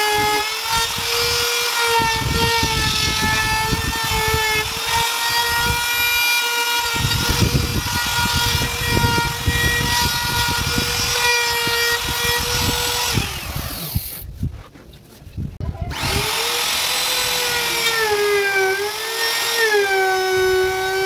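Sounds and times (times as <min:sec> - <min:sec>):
router whining: 0:00.0 - 0:14.2, 0:15.8 - 0:21.0.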